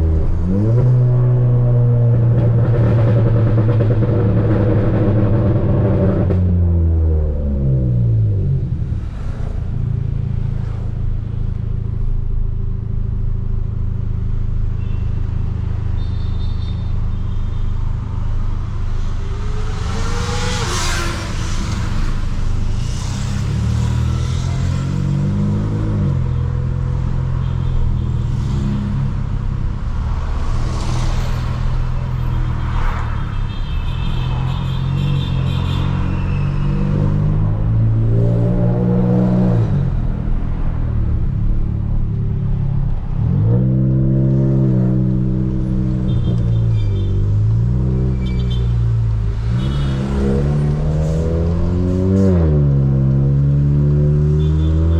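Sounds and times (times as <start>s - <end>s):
car engine and exhaust revving: 0.0s - 14.6s, 17.9s - 33.1s, 34.7s - 54.9s.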